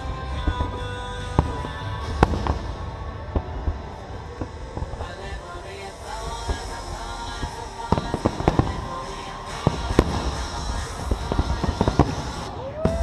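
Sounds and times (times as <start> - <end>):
fireworks bangs: 0.0 - 13.0
music playing: 0.0 - 13.0.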